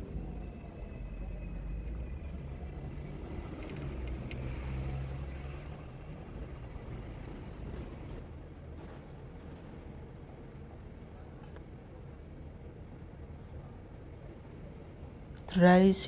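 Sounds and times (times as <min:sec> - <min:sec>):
bus passing: 0:00.0 - 0:16.0
tram rumbling on tracks: 0:00.0 - 0:16.0.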